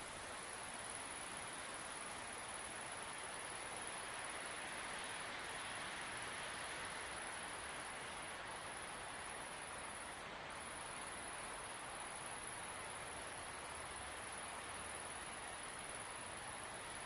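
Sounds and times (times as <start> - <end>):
high-pitched insect chorus: 0.0 - 17.0
steady wind: 0.0 - 17.0.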